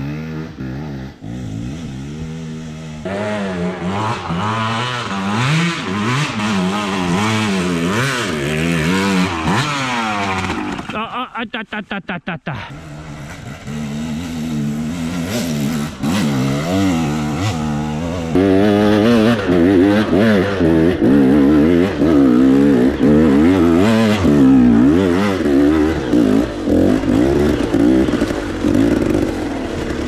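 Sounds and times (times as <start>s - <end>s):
dirt bike engine revving: 0.0s - 11.2s, 12.6s - 30.0s.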